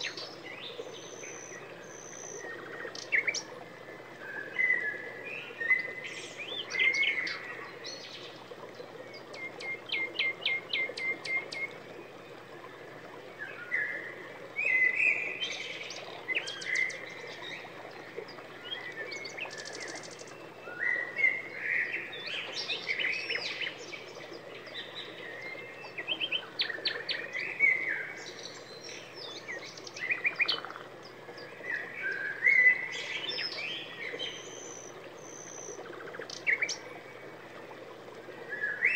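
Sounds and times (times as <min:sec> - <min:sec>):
faint steady hiss: 0:00.0 - 0:38.9
songbirds singing: 0:00.0 - 0:38.9.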